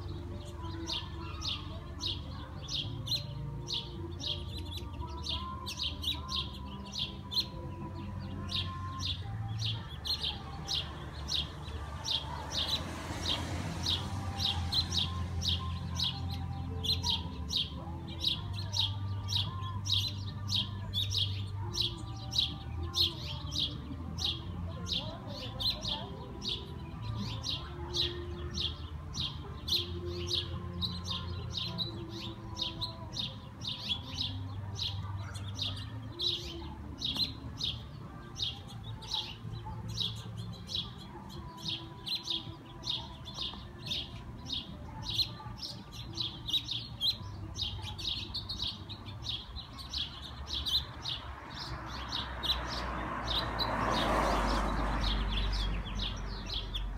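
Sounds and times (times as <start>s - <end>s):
small songbirds chirping: 0.0s - 56.9s.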